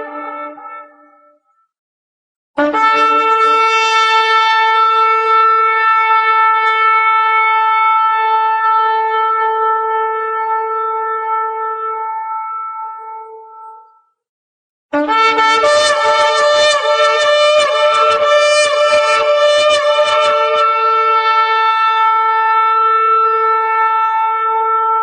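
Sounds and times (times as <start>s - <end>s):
shofar long steady blast: 0.0s - 1.3s, 2.6s - 13.8s, 15.0s - 25.0s.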